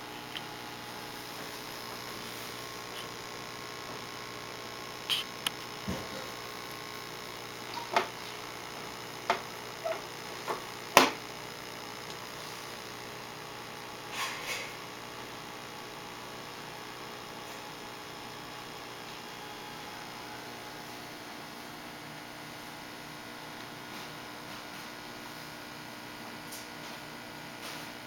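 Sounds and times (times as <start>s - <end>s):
aquarium equipment humming: 0.0s - 28.0s.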